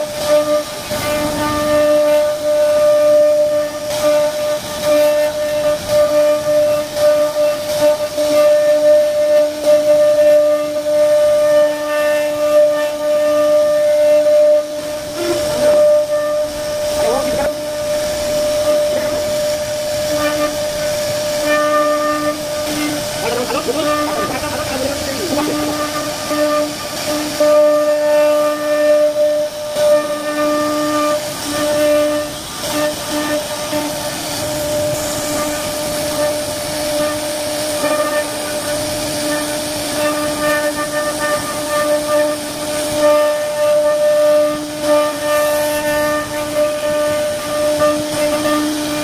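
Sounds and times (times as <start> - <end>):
hiss of cutting wood: 0.0 - 49.0
router spindle whining: 0.0 - 49.0.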